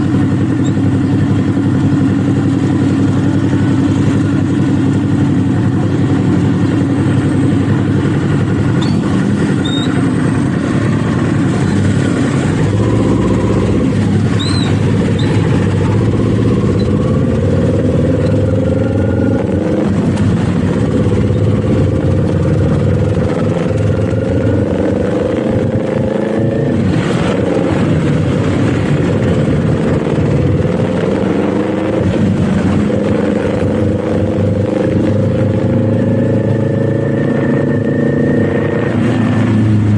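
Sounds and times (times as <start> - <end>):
motorcycle engine pulling through gears: 0.0 - 39.9.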